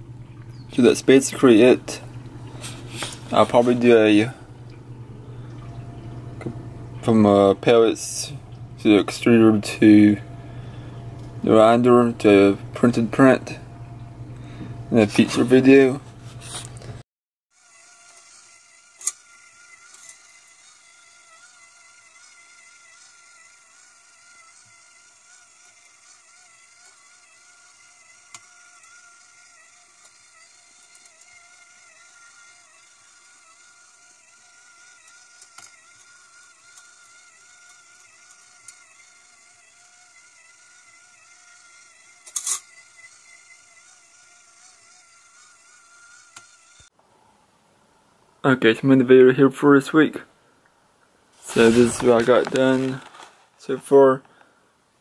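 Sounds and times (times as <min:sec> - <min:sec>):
electric motor whining: 0:00.0 - 0:16.9, 0:17.5 - 0:47.0, 0:51.4 - 0:53.8.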